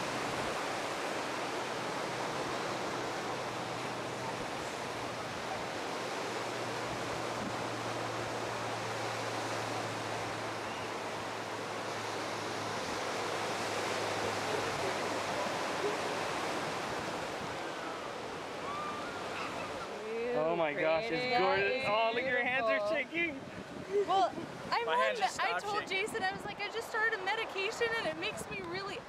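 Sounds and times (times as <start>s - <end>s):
ocean surf: 0.0s - 29.0s.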